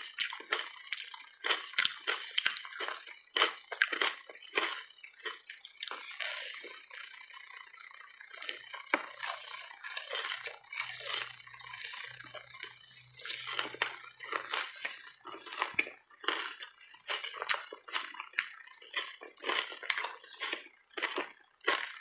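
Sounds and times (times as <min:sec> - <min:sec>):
ice crunching between teeth: 0:00.0 - 0:22.0.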